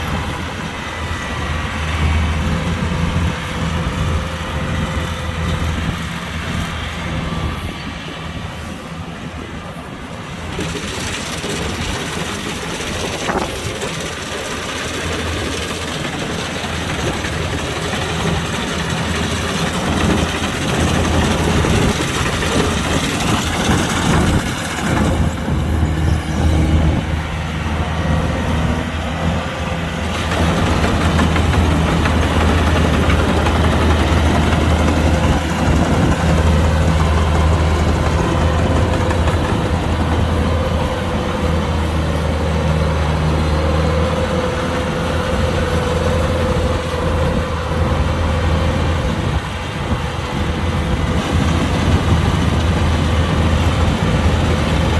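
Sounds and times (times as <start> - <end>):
diesel engine running: 0.0 - 54.9
high machinery whine: 0.0 - 54.9.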